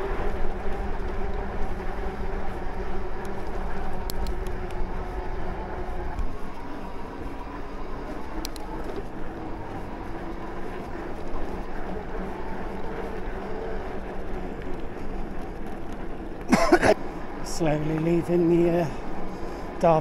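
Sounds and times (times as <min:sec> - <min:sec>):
bike tyres rolling: 0:00.0 - 0:20.0.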